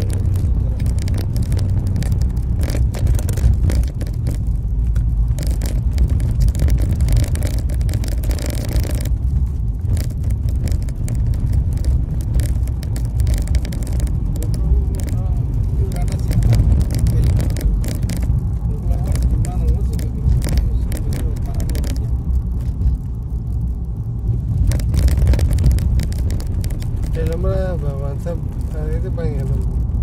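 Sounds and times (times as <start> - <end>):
rattles and knocks: 0.0 - 29.9
road noise: 0.0 - 30.0
vehicle engine rumble: 0.0 - 30.0.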